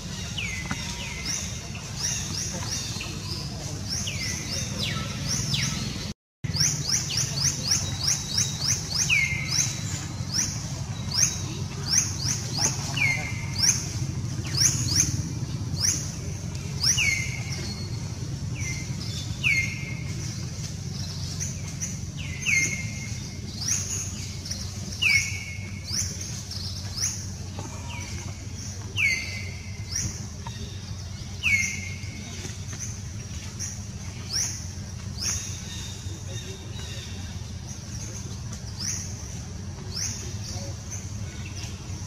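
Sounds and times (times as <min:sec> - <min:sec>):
low outdoor rumble: 0:00.0 - 0:42.0.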